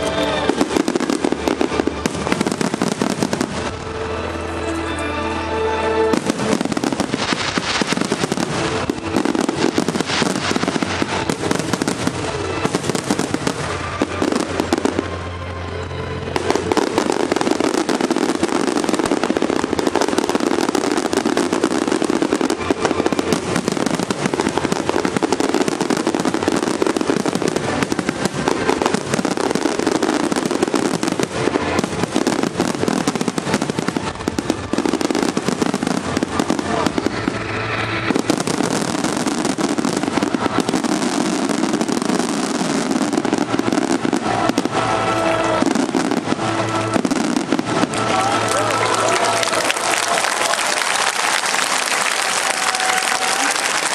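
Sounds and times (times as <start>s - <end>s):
fireworks bursting and crackling: 0.0s - 53.9s
music playing: 0.0s - 53.9s.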